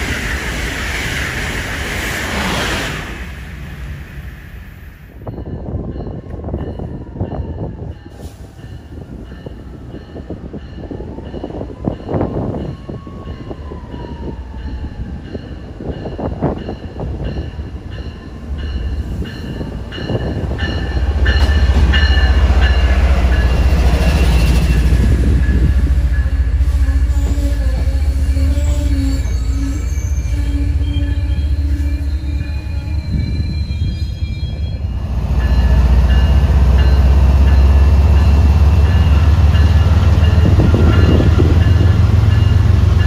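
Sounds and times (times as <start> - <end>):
train wheels and brakes squealing: 0.0 - 42.7
train rumbling past: 0.0 - 43.0.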